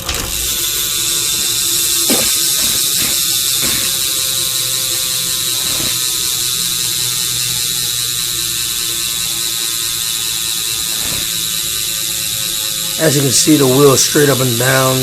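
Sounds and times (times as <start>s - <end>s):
bike hub ratcheting buzz: 0.0s - 15.0s.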